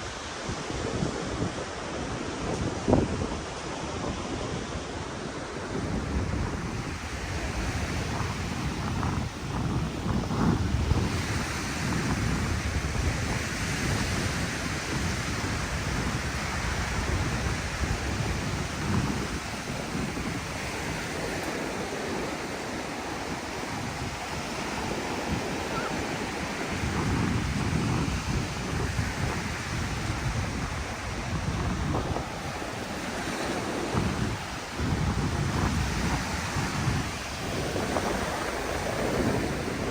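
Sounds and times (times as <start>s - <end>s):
ocean surf on sandy beach: 0.0s - 39.9s
wind buffeting microphone: 0.0s - 39.9s.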